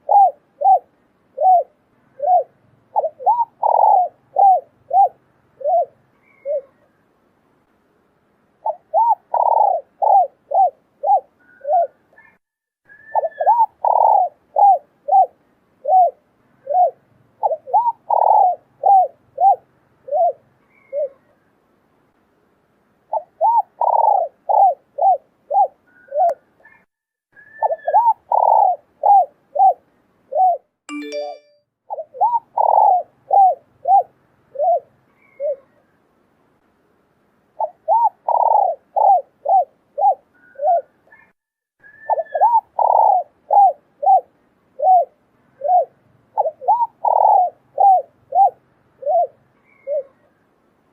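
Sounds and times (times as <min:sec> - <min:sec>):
dove cooing: 0:00.0 - 0:06.8, 0:08.6 - 0:12.4, 0:13.0 - 0:21.3, 0:23.1 - 0:26.8, 0:27.4 - 0:30.6, 0:31.9 - 0:35.8, 0:37.6 - 0:50.3.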